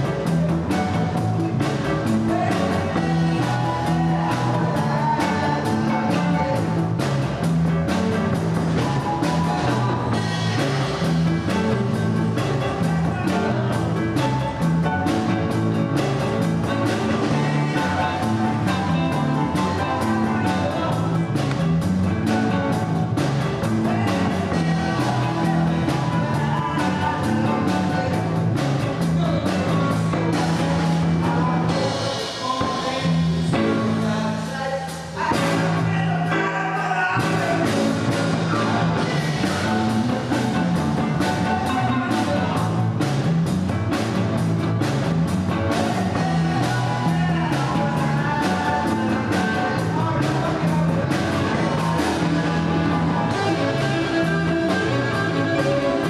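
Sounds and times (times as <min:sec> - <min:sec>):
drum kit steady beat: 0:00.0 - 0:36.3, 0:37.2 - 0:56.0
bass notes: 0:00.0 - 0:56.0
electric guitar: 0:00.0 - 0:56.0
keyboard: 0:00.0 - 0:56.0
live band playing: 0:00.0 - 0:56.0.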